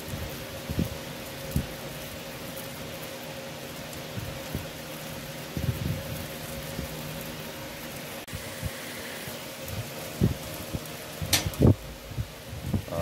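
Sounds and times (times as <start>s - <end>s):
fish sizzling on a grill: 0.0s - 13.0s.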